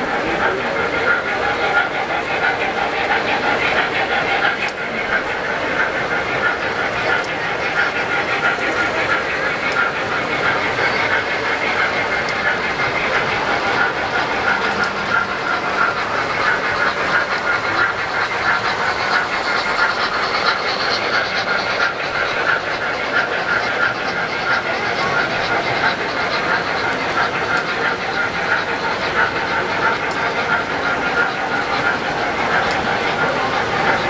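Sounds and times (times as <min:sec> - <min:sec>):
model train motors whirring: 0:00.0 - 0:34.0
wheels clicking over track: 0:00.0 - 0:34.0.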